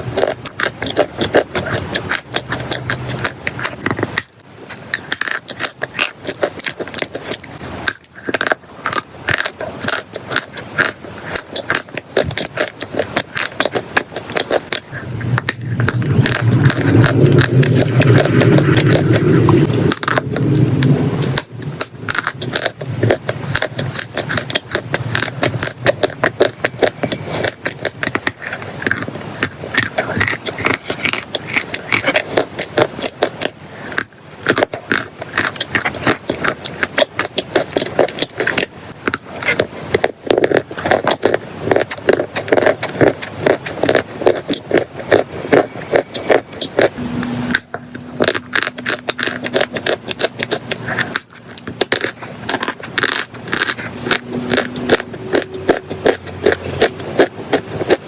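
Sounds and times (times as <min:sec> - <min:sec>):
chalk and clay crunching: 0:00.0 - 0:58.0.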